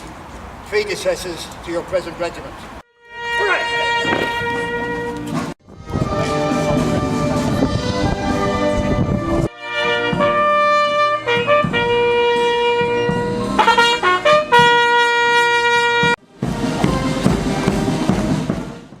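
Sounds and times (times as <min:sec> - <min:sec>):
brass fanfare: 0:02.9 - 0:19.0.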